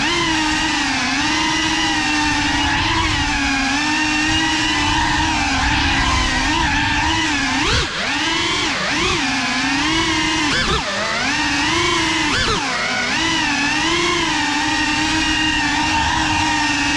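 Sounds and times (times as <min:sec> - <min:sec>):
drone propellers buzzing whine: 0:00.0 - 0:16.9.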